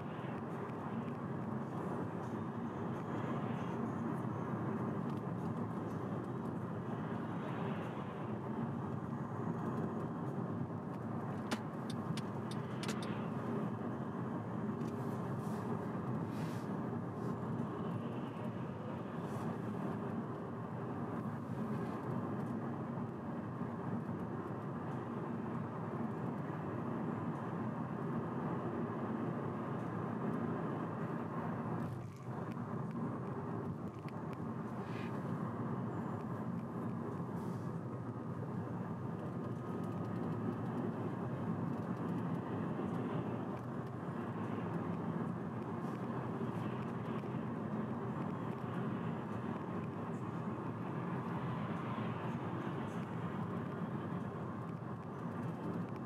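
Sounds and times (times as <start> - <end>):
car road and tyre noise: 0.0 - 56.0.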